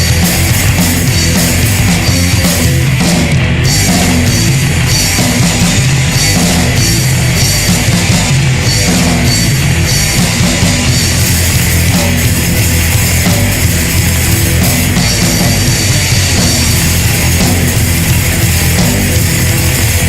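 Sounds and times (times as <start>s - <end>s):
bass guitar: 0.0s - 20.0s
distorted electric guitar: 0.0s - 20.0s
drum kit: 0.0s - 20.0s.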